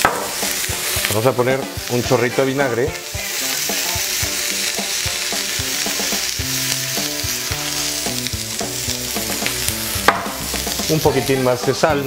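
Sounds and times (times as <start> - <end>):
food sizzling in a grill pan: 0.0 - 12.0.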